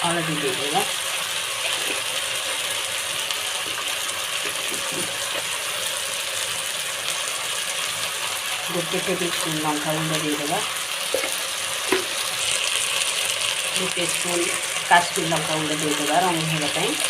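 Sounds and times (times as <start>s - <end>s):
paste sizzling in hot oil: 0.0s - 17.0s.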